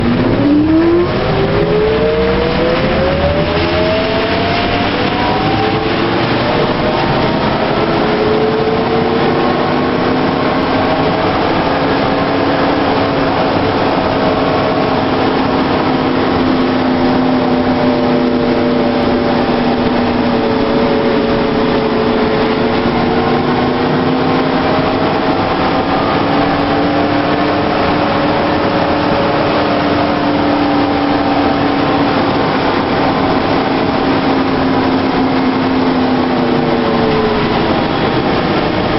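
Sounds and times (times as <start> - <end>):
continuous rolling noise: 0.0 - 38.9.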